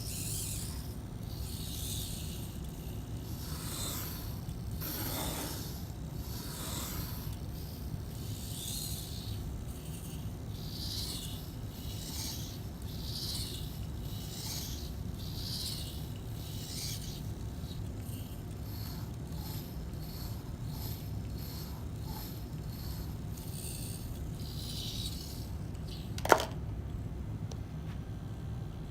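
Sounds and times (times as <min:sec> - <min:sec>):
steady low hum: 0:00.0 - 0:28.9
pencil scratching on paper: 0:00.3 - 0:25.6.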